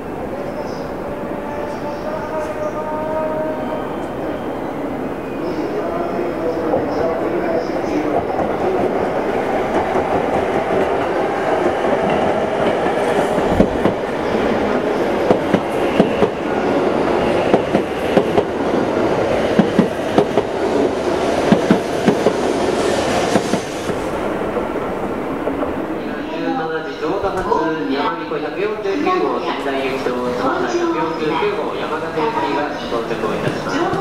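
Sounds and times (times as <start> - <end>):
train rolling rumble: 4.9 - 34.0.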